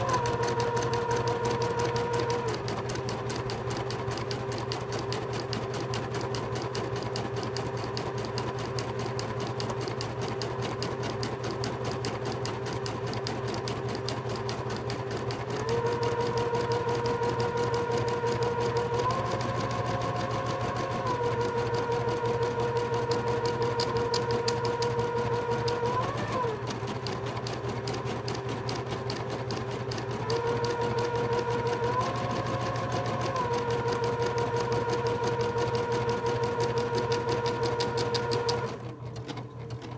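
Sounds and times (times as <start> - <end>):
motor hum and whine: 0.0 - 39.9.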